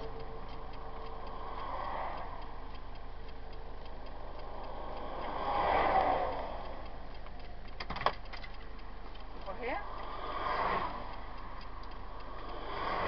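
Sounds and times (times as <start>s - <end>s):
faint regular ticking: 0.0s - 13.0s
passing lorry rush: 0.0s - 13.0s
road noise inside vehicle: 0.0s - 13.0s.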